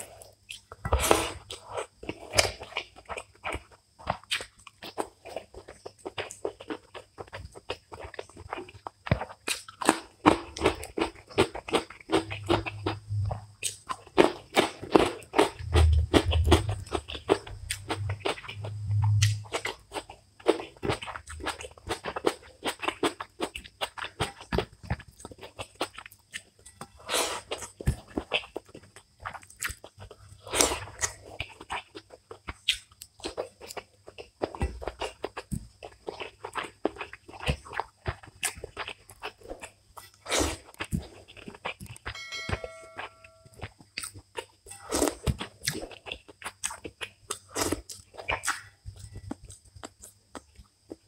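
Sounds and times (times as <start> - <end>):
close chewing clicks: 1.5 - 42.1, 43.5 - 51.0.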